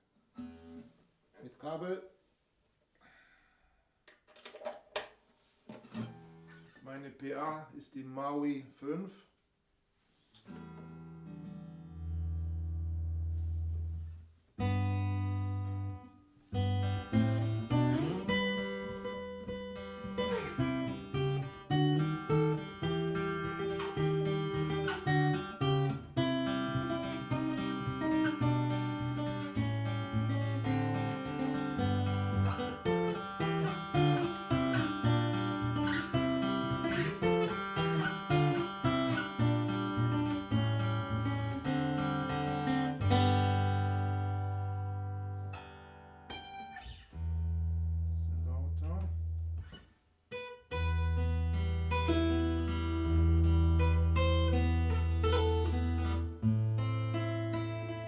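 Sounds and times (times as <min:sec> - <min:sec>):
acoustic guitar plucked: 0:10.4 - 0:58.0.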